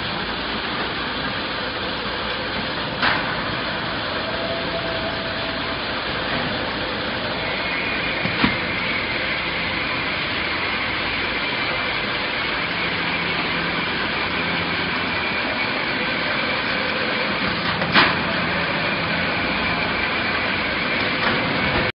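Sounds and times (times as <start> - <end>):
faint hum and whine: 0.0 - 21.9
roller conveyors running: 0.0 - 21.9.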